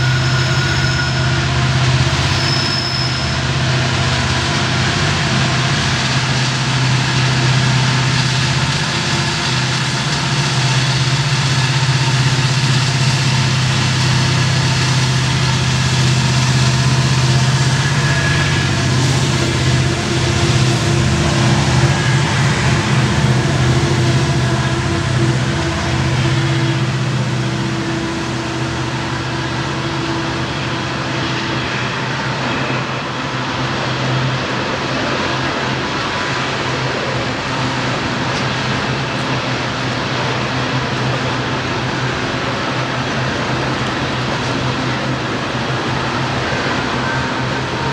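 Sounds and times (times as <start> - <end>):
diesel locomotives working hard: 0.0 - 47.9.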